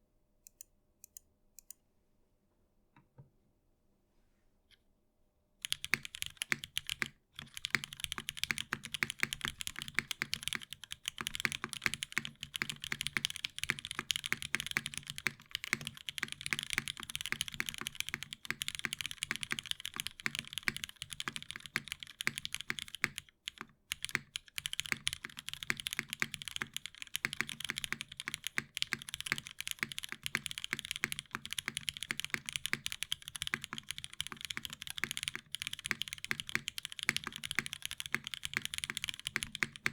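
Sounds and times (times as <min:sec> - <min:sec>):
mechanical keyboard typing: 0:05.6 - 0:39.9.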